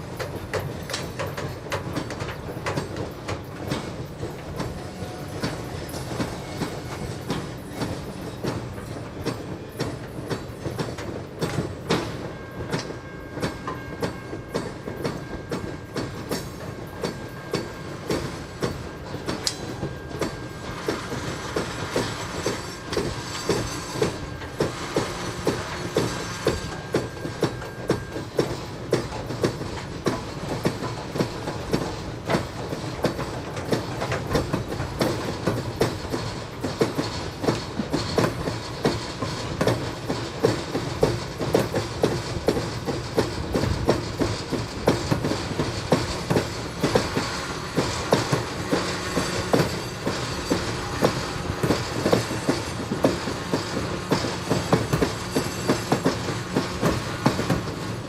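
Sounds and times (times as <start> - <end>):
diesel locomotive engine: 0.0 - 58.0
freight cars clanking over rail joints: 0.0 - 58.0.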